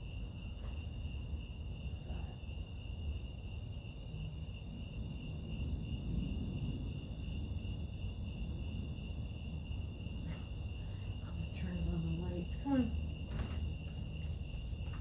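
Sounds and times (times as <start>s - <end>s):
low rumbling noise: 0.0s - 13.3s
crickets chirping: 0.0s - 15.0s.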